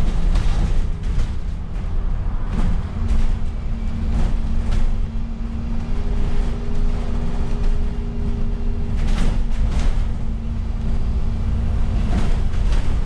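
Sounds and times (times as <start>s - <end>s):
bus engine rumble: 0.0s - 13.0s
constant hum: 0.0s - 13.0s
knocks and rattles: 0.0s - 13.0s.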